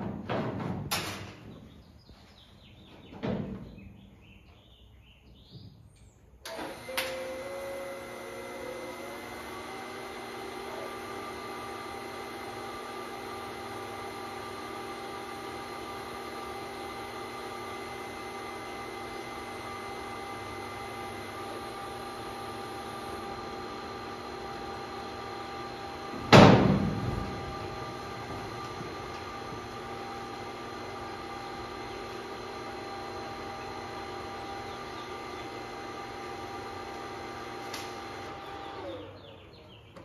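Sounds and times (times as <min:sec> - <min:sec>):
welder humming: 0:06.4 - 0:39.2.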